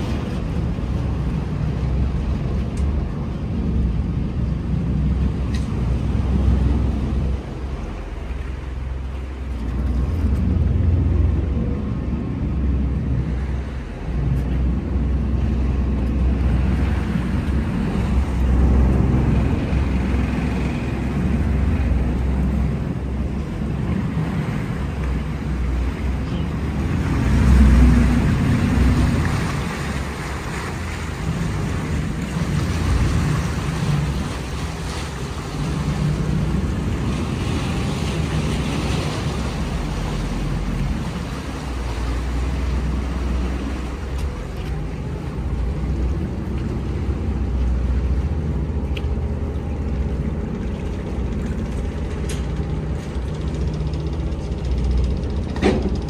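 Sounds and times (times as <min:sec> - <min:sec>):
ferry engine rumbling: 0:00.0 - 0:56.0
water wash: 0:00.0 - 0:56.0.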